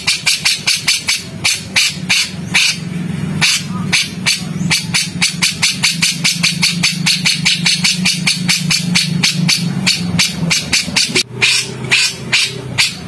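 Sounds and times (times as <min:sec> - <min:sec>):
songbird harsh chattering call: 0:00.0 - 0:13.0
steady low hum: 0:00.0 - 0:13.0.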